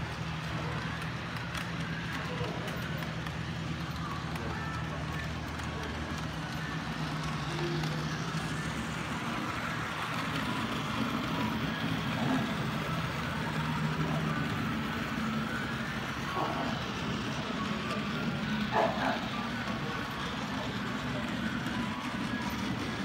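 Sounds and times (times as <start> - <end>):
faint background chatter: 0.0 - 23.0
model train humming on track: 0.0 - 23.0.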